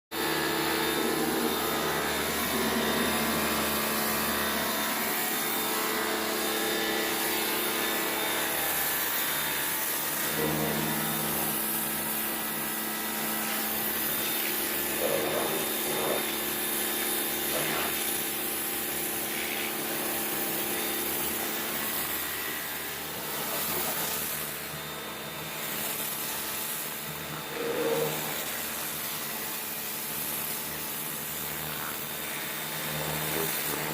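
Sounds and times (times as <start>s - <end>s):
pressure washer motor humming: 0.1s - 33.9s
water jet hissing: 0.2s - 24.8s, 25.4s - 33.9s.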